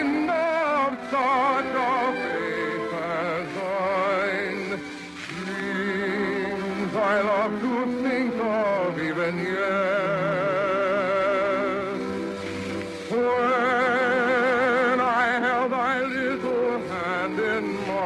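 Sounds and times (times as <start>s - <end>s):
operatic singing with vibrato: 0.0s - 18.0s
orchestral accompaniment: 0.0s - 18.0s.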